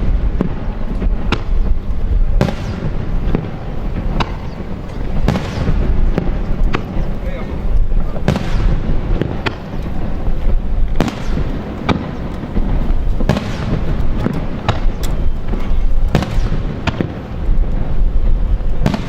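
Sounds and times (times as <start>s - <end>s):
continuous low rumble: 0.0s - 19.0s
fireworks shells bursting: 0.0s - 19.0s.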